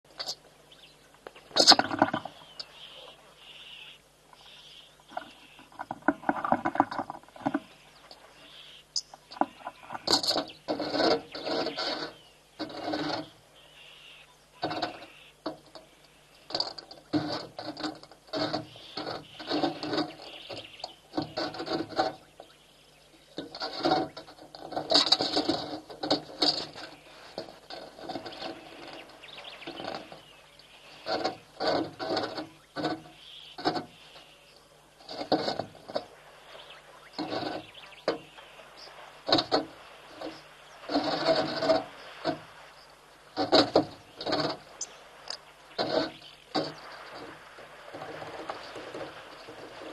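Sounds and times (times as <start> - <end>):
water splashing and sloshing: 0.0 - 49.9.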